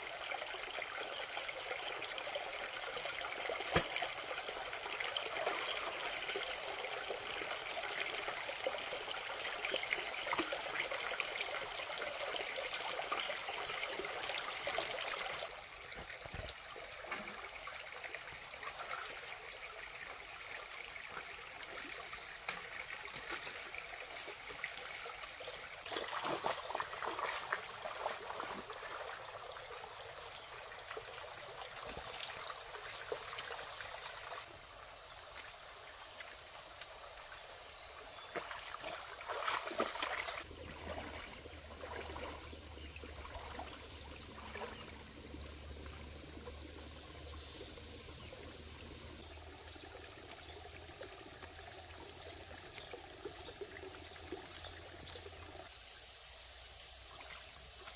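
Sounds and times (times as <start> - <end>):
small stream trickling: 0.0 - 57.9.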